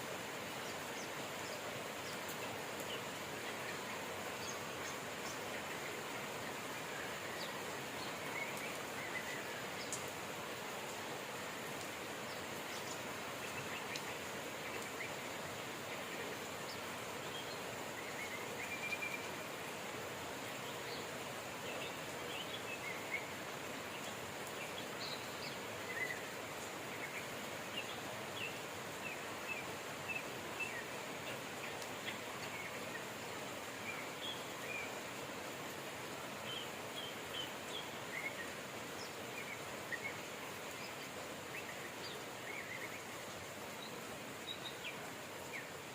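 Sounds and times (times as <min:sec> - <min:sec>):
steady rain hiss: 0:00.0 - 0:45.9
small birds chirping: 0:00.1 - 0:45.9.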